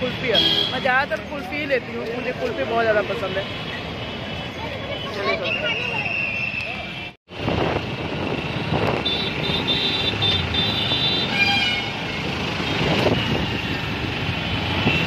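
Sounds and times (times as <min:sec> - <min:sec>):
engine and tyre noise: 0:00.0 - 0:15.0.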